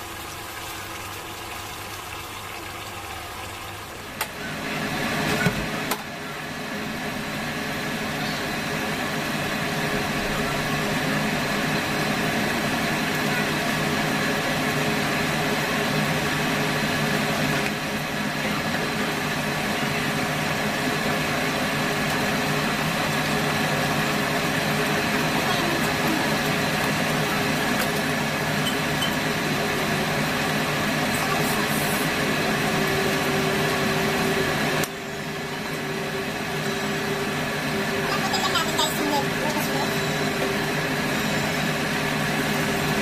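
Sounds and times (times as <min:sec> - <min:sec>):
appliance fan whirring hum: 0:00.0 - 0:43.0.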